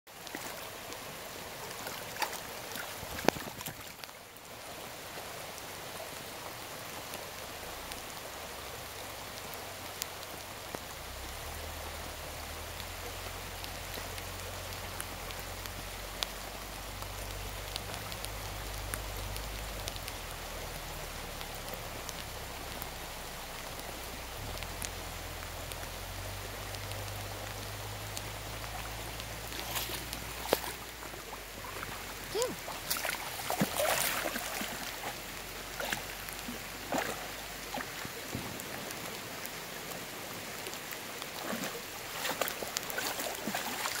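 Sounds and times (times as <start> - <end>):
rain pattering on stream: 0.1 - 44.0
sharp drip ticks: 6.8 - 44.0.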